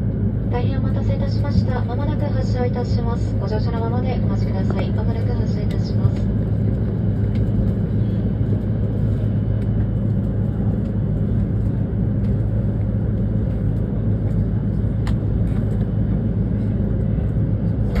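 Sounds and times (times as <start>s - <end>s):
train interior rumble and hum: 0.0s - 18.0s.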